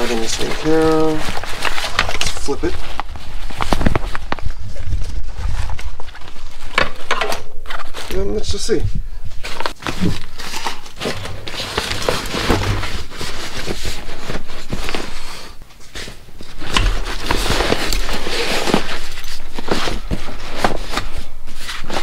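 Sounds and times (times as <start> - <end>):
fabric rustling: 0.0 - 8.5, 9.1 - 22.0.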